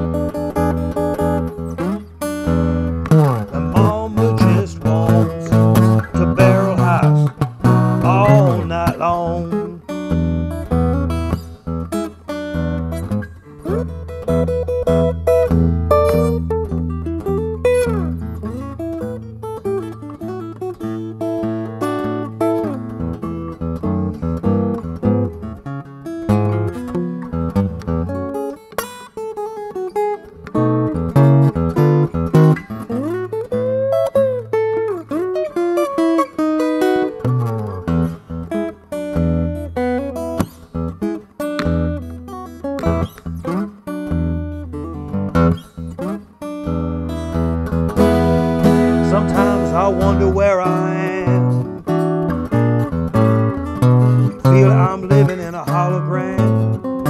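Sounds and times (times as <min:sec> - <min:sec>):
fingerstyle acoustic blues guitar: 0:00.0 - 0:57.0.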